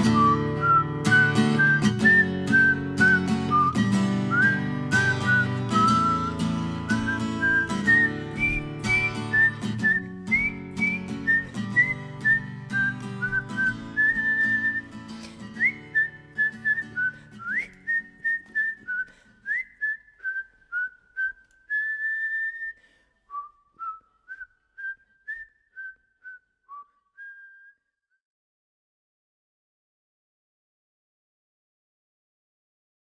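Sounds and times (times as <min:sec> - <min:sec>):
person whistling a melody: 0:00.0 - 0:28.2.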